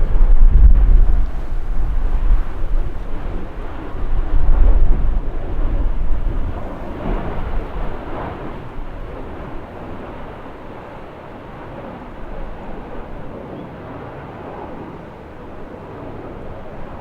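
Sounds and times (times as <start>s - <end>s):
jet engine rumble: 0.0s - 17.0s.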